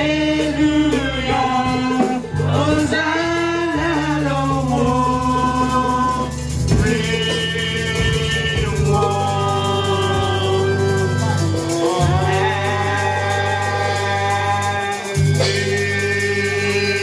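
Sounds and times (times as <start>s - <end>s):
instrumental accompaniment: 0.0s - 17.0s
voices singing long notes: 0.0s - 17.0s.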